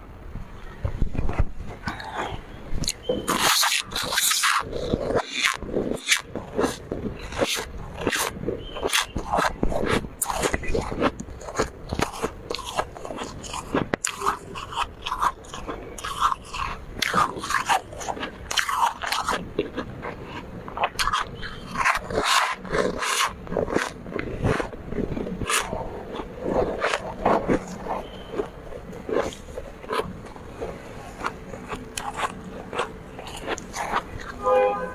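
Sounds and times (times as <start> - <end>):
chewing crunchy frost: 0.3 - 34.8.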